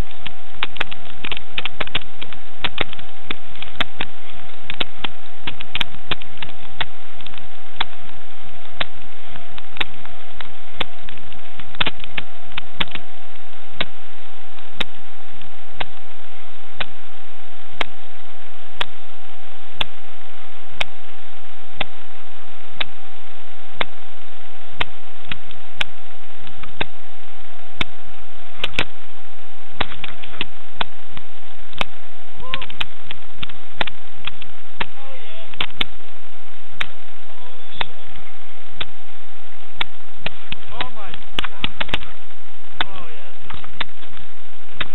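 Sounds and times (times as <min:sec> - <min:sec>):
faint constant tone: 0:00.0 - 0:44.9
loud steady hiss: 0:00.0 - 0:44.9.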